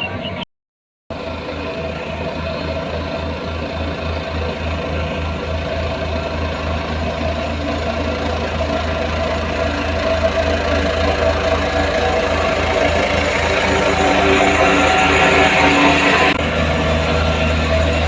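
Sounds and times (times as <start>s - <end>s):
heavy diesel engine throbbing: 1.1s - 18.0s.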